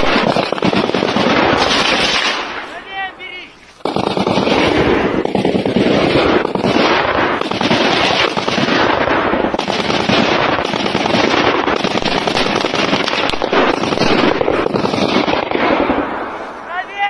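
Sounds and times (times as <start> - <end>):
rapid gunfire: 0.0 - 16.4.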